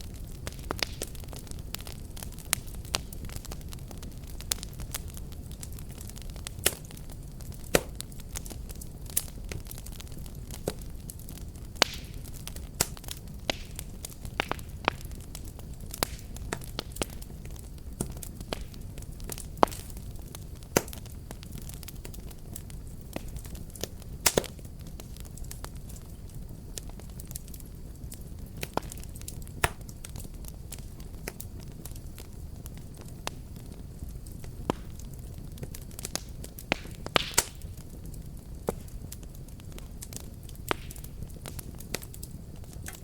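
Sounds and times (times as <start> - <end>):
fire crackling and popping: 0.0 - 43.0
wood fire rumbling: 0.0 - 43.0.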